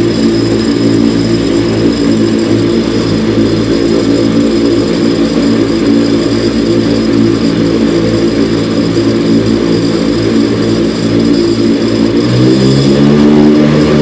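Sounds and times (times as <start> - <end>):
aircraft engine running: 0.0 - 14.0.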